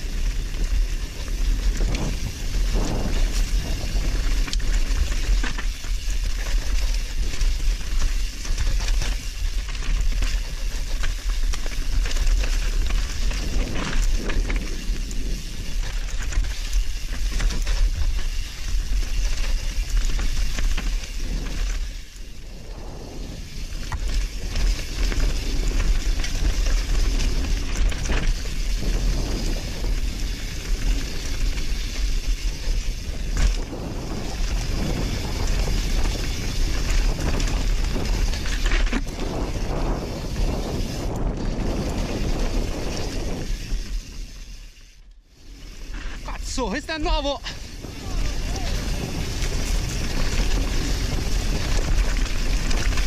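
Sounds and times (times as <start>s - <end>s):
tyres rolling over dirt and stones: 0.0s - 22.2s, 23.7s - 44.4s, 47.5s - 53.0s
wind buffeting microphone: 0.0s - 44.4s, 45.7s - 53.0s
bike rattling over rocks: 0.0s - 53.0s.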